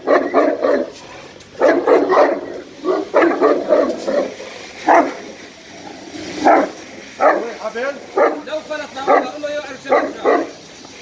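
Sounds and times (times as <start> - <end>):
dog barking: 0.0 - 1.0, 1.6 - 5.3, 6.4 - 10.6.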